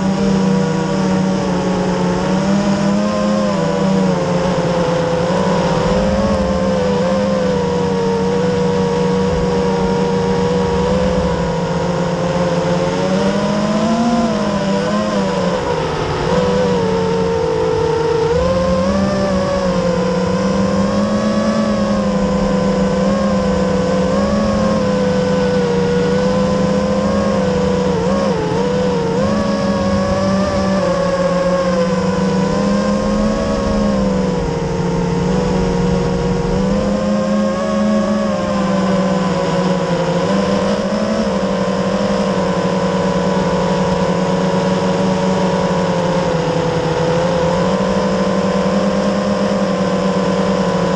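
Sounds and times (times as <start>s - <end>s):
quadcopter motors buzzing whine: 0.0s - 50.9s.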